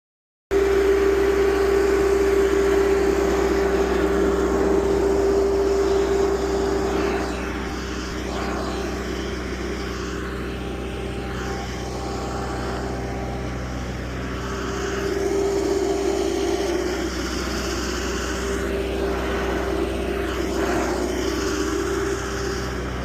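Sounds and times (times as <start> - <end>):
skid steer engine droning: 0.5 - 23.0.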